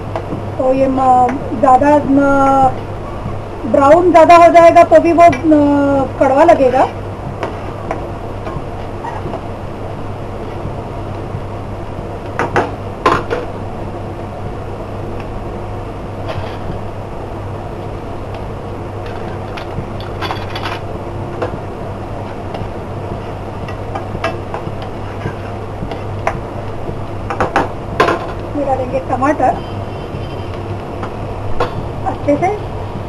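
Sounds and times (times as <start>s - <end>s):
low hum: 0.0s - 33.0s
onion frying in oil: 0.0s - 33.0s.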